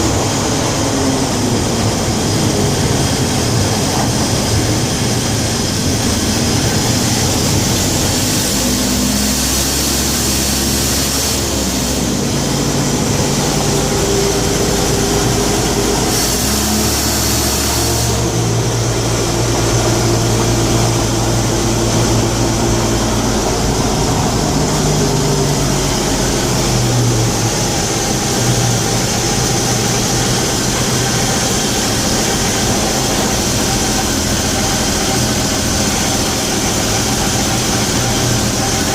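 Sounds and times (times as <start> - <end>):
van engine running: 0.0 - 38.9.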